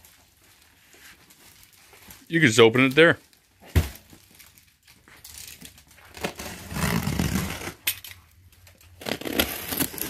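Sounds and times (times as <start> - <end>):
plastic film rustling: 0.0 - 10.0.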